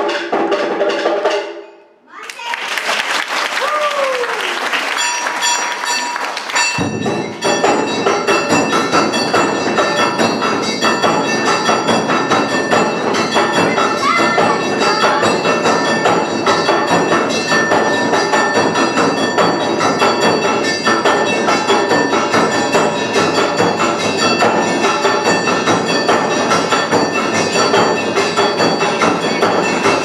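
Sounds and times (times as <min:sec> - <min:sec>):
taiko drums: 0:00.0 - 0:01.7, 0:03.7 - 0:30.0.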